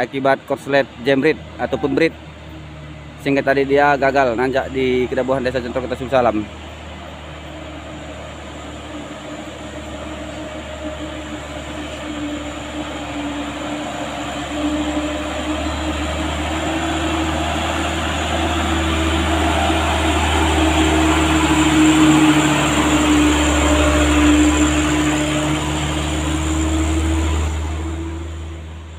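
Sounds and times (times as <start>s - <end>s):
diesel truck engine pulling uphill: 0.0s - 28.9s.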